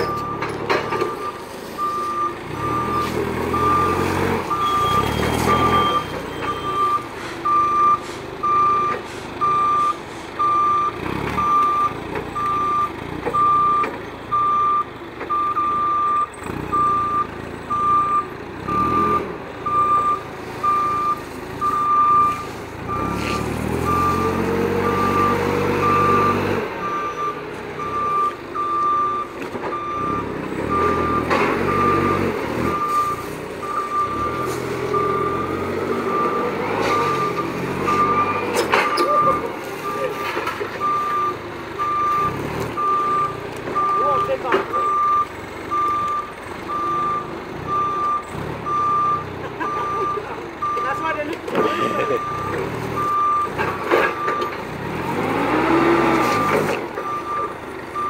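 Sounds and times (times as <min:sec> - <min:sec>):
forklift backup alarm beeping: 0:00.0 - 0:58.0
forklift engine revving: 0:00.0 - 0:58.0.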